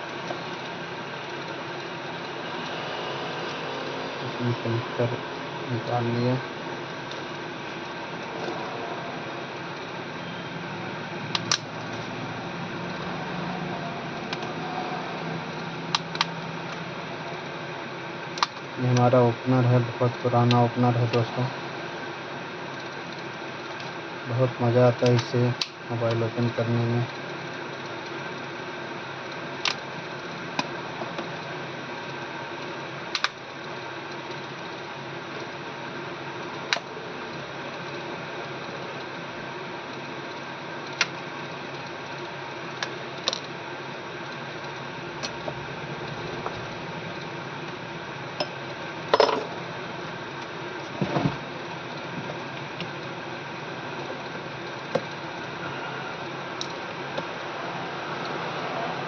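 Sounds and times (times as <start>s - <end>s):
steady fan hum: 0.0s - 59.0s.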